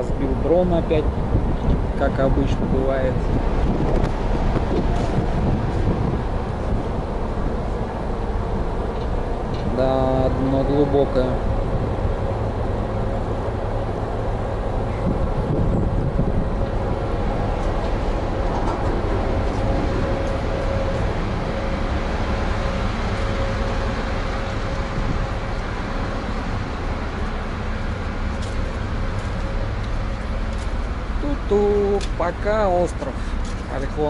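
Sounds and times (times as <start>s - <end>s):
ferry engine droning: 0.0s - 34.0s.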